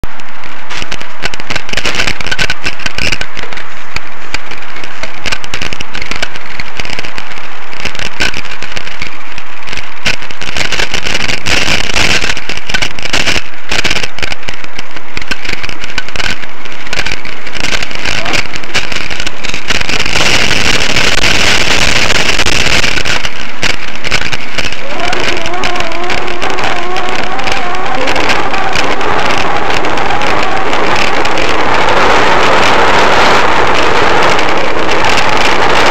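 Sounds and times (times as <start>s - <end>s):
constant rushing noise: 0.0s - 35.9s
camera rattling and knocking: 0.7s - 32.2s.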